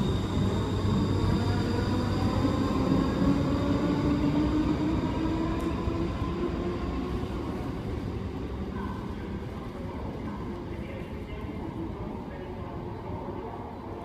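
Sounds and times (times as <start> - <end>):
train rumbling and humming: 0.0 - 14.0.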